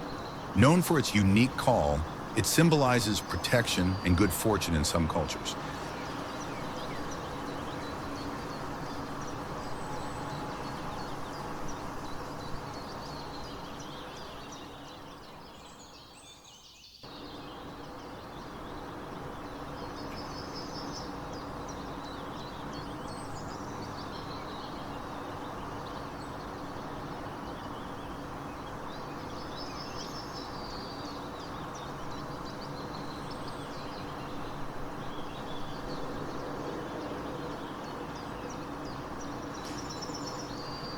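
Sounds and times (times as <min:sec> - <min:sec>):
steady background noise: 0:00.0 - 0:16.1, 0:17.0 - 0:40.9
birds chirping and twittering: 0:00.0 - 0:40.9.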